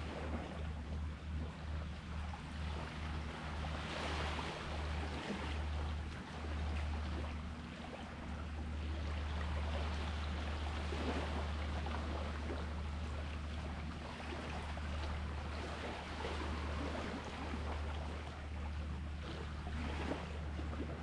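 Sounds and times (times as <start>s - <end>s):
sea water lapping: 0.0s - 21.0s
steady low rumble: 0.0s - 21.0s.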